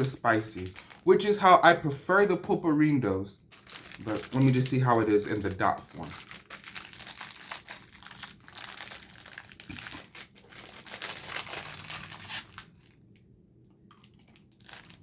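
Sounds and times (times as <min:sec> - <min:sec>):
plastic wrapper crinkling: 0:00.0 - 0:01.5, 0:03.4 - 0:15.0.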